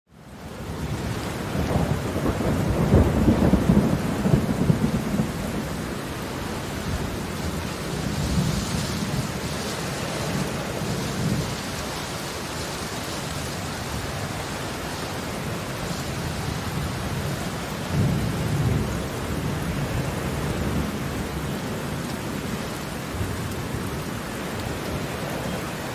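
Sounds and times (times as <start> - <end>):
heavy rain falling: 0.1 - 25.9.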